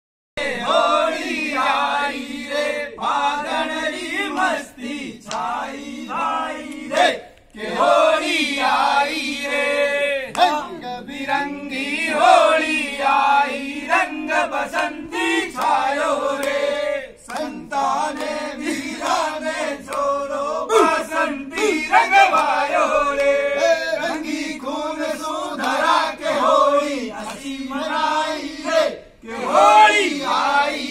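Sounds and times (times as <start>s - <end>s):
men singing a chant: 0.4s - 30.9s.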